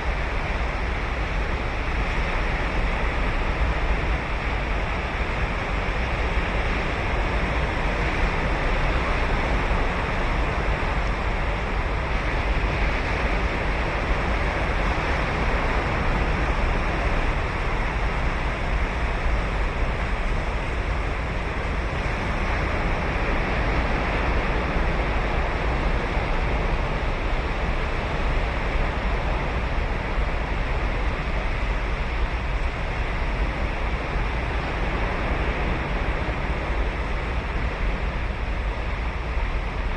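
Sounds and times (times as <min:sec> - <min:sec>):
ocean surf breaking on beach: 0:00.1 - 0:39.9.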